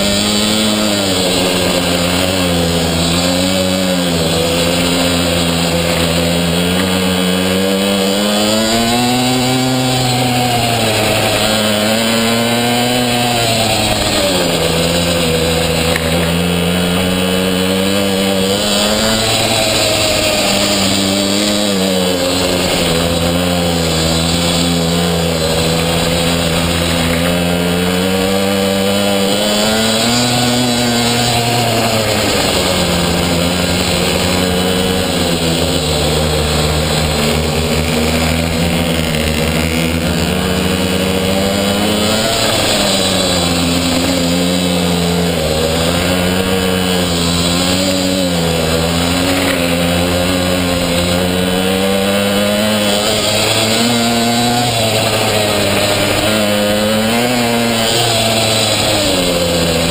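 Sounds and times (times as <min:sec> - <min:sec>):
small two-stroke engine revving: 0:00.0 - 0:59.9.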